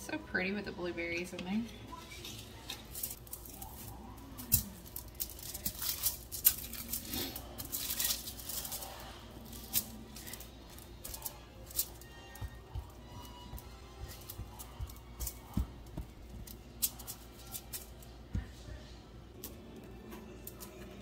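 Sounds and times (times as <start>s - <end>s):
aluminium foil crinkling: 2.0s - 18.8s.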